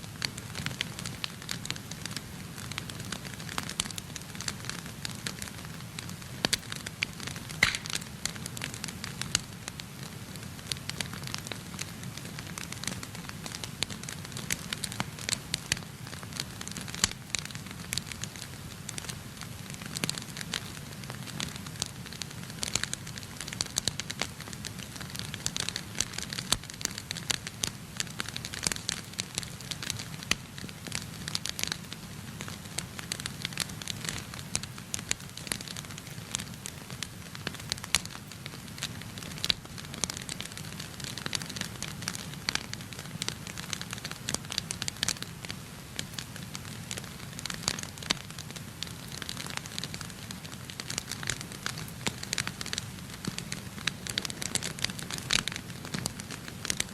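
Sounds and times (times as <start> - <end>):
low rumble of flames: 0.1 - 56.9
wood fire crackling: 0.1 - 56.9.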